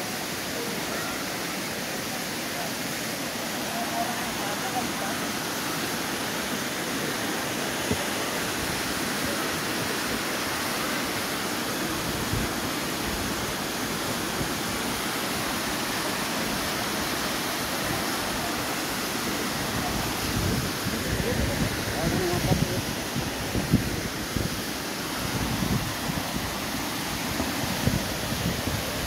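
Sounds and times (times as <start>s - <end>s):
water rushing over waterfalls: 0.0s - 29.0s.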